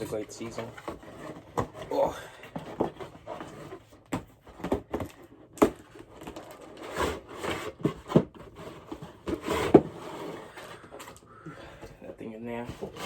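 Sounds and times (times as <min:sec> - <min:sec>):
cardboard box rustling and scraping: 0:00.0 - 0:11.2, 0:12.2 - 0:13.0.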